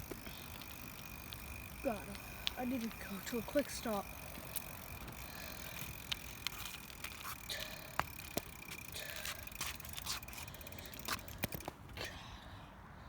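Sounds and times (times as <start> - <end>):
bicycle clicks and rattles: 0.0 - 12.1.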